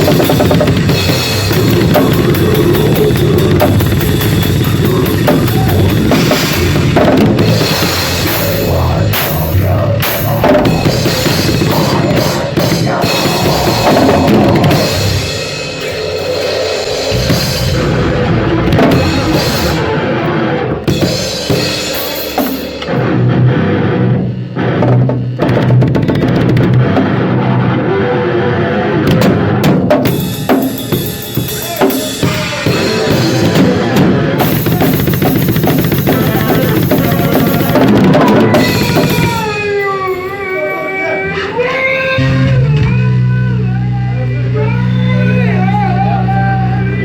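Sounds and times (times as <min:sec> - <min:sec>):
drum kit playing loudly: 0:00.0 - 0:27.4, 0:29.0 - 0:47.0.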